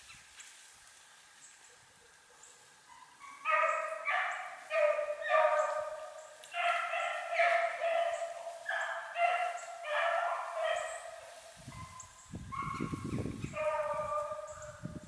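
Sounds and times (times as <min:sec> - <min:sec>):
hounds baying: 0:02.0 - 0:14.8.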